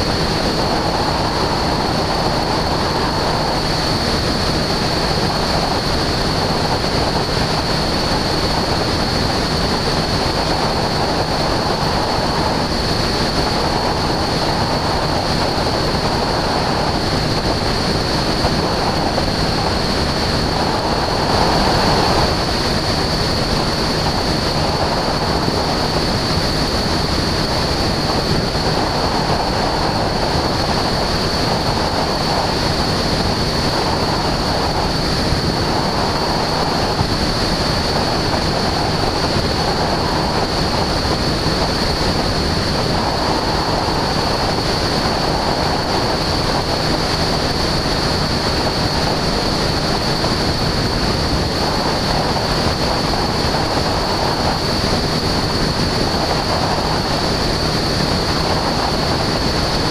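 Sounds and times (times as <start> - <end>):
aircraft engine noise: 0.0 - 59.9
wind rushing: 0.0 - 59.9.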